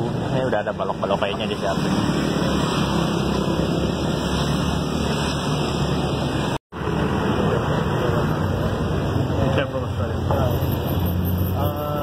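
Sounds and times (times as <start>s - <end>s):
loud outdoor rumble: 0.0s - 12.0s.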